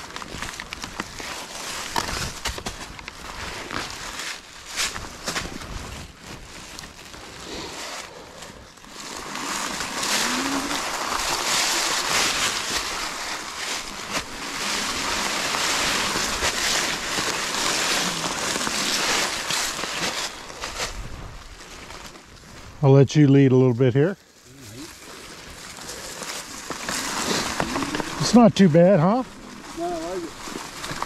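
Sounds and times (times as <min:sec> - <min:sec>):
bike tyres rolling through dry leaves: 0:00.0 - 0:31.0.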